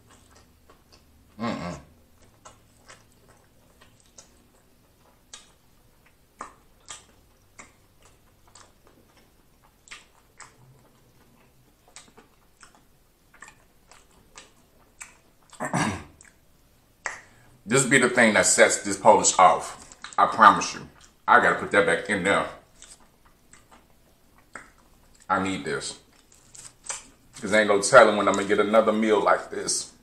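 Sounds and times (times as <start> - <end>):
wet crunchy chewing: 0.0 - 17.3, 19.3 - 25.3, 26.0 - 28.6.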